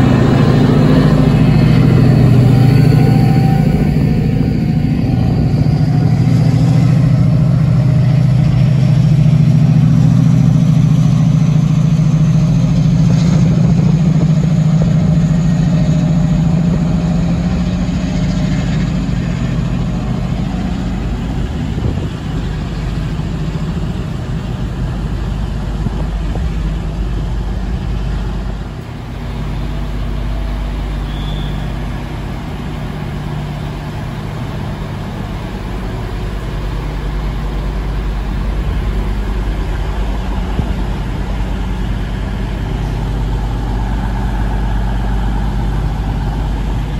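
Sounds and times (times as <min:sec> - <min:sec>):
diesel locomotive engine drone: 0:00.0 - 0:46.9.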